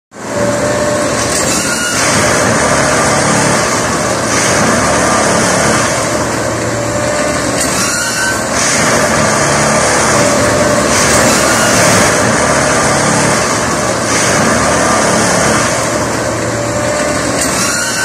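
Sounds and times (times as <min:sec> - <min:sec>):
track machine engine and hydraulics: 0:00.1 - 0:18.0
noisy rush of tamping: 0:00.3 - 0:18.0.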